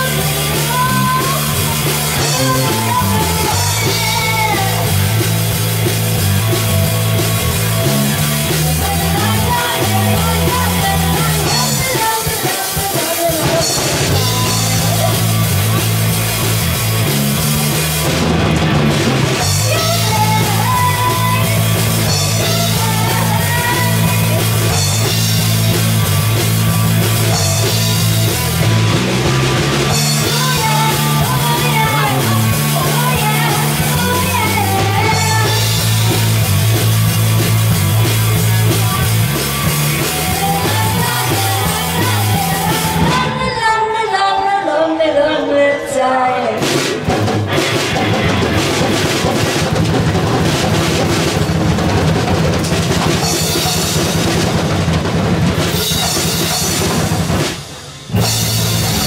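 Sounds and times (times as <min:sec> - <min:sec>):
electric bass: 0:00.0 - 0:12.3, 0:13.2 - 0:43.5, 0:46.6 - 0:59.0
drum kit: 0:00.0 - 0:43.6, 0:46.4 - 0:59.0
electric guitar: 0:00.0 - 0:44.3, 0:45.2 - 0:59.0.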